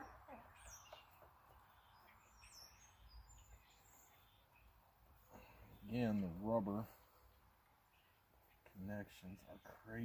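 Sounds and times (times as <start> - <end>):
faint bird chirps: 0.0 - 6.4, 7.0 - 10.0.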